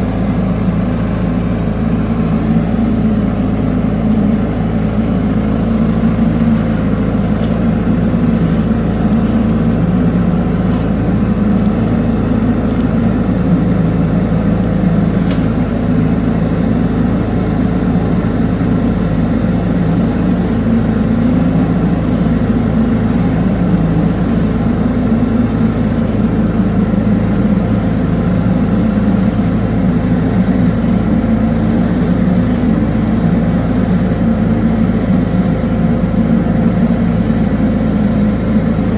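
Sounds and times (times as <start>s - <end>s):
drain jetting machine droning: 0.0s - 38.9s.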